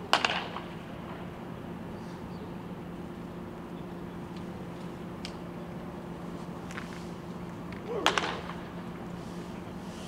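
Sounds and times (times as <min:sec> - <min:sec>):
background noise haze: 0:00.0 - 0:10.0
steady low hum: 0:00.0 - 0:10.0.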